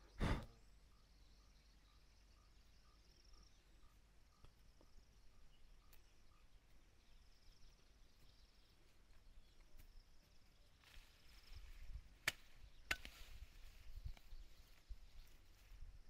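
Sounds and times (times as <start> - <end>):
soft chirp: 0.0 - 16.0
insect hiss: 0.1 - 16.0.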